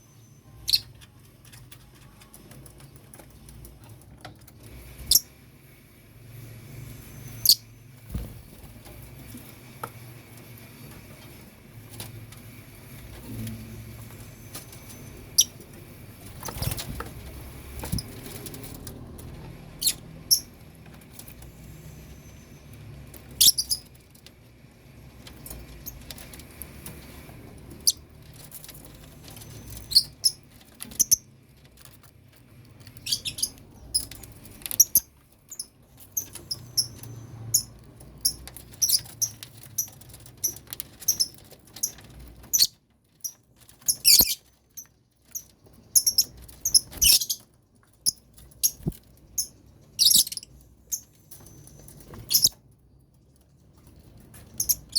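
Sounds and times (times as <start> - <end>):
birds chirping high-pitched: 0.0 - 4.0, 4.6 - 5.6, 6.4 - 9.4, 12.8 - 24.2, 25.0 - 52.7, 54.2 - 54.9.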